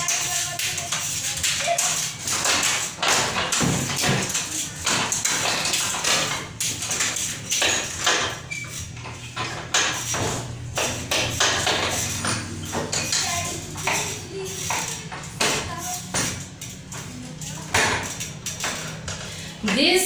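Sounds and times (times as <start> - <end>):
crutches tapping on tiled floor: 0.0 - 19.9.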